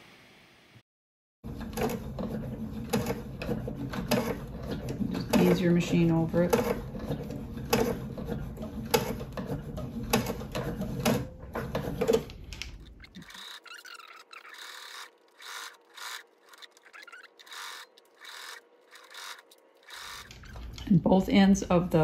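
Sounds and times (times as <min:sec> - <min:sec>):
sewing machine stitching: 0:01.5 - 0:12.3, 0:12.9 - 0:20.8.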